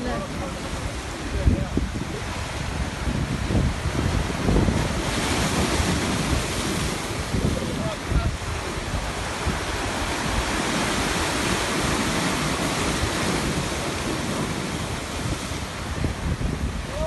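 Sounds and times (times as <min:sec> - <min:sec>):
sea surf washing ashore: 0:00.0 - 0:17.0
wind buffeting microphone: 0:00.0 - 0:17.0.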